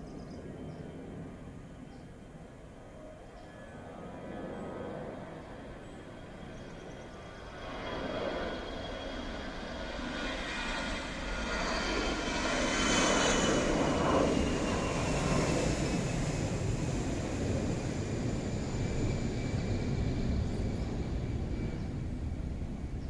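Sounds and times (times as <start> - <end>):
jet airliner taking off: 2.4 - 23.0.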